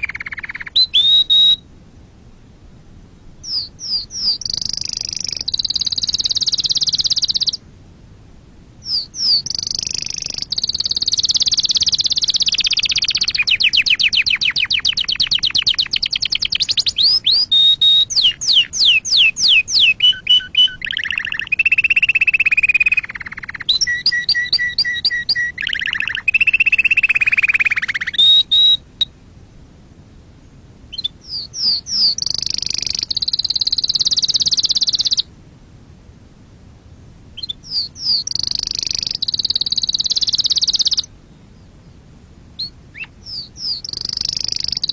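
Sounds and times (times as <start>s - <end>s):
canary singing trills: 0.0s - 1.7s, 3.2s - 7.6s, 8.8s - 29.1s, 30.9s - 35.3s, 37.4s - 42.0s, 42.6s - 44.9s.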